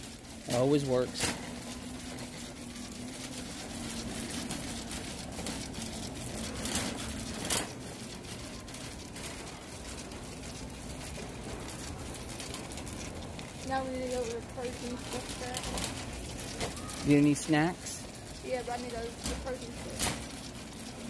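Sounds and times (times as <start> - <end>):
shopping cart rolling: 0.0 - 21.0
store background hum: 0.0 - 21.0.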